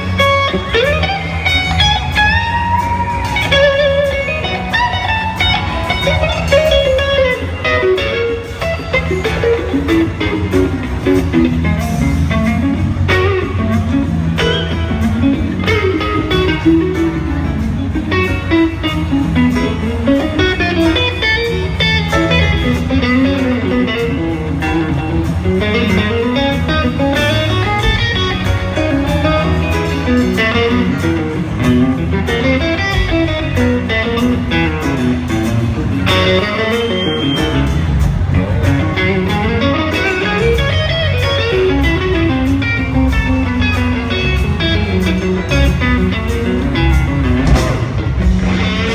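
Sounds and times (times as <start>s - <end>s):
bass and drums: 0.0s - 48.9s
electric guitar solo: 0.0s - 48.9s.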